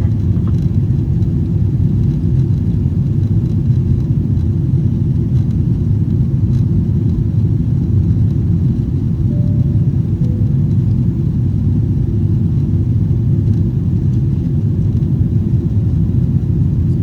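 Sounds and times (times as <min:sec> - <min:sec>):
jet engine rumble in cabin: 0:00.0 - 0:17.0.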